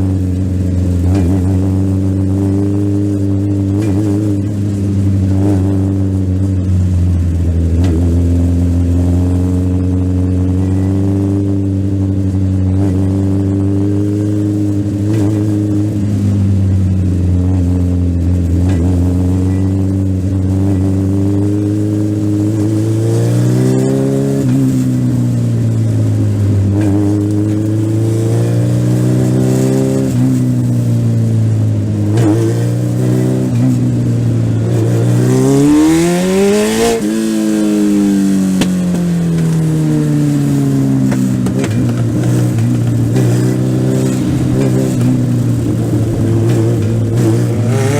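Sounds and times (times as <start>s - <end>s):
race car engine at high revs: 0.0s - 47.9s.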